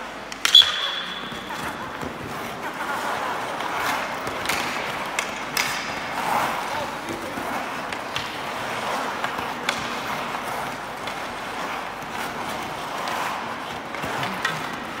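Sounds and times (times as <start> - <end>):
skates scraping on ice: 0.3 - 15.0.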